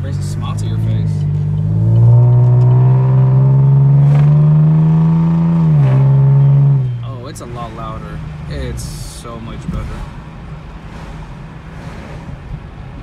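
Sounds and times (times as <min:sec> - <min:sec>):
car exhaust accelerating: 0:00.0 - 0:13.0.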